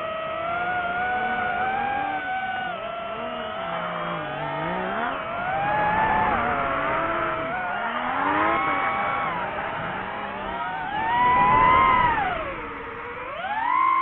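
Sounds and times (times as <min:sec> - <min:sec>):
rc car motor whining: 0:00.0 - 0:14.0.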